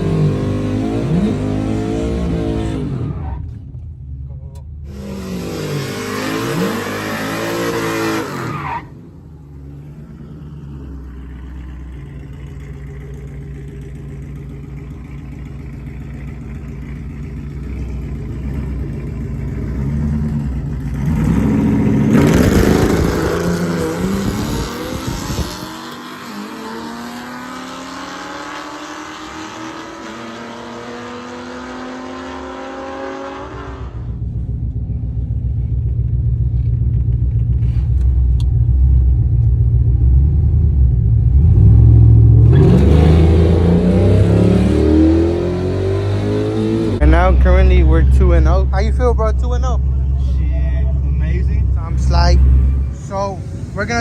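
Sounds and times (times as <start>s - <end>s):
drag racing engines revving: 0.0s - 3.8s, 4.5s - 34.2s, 40.0s - 54.0s.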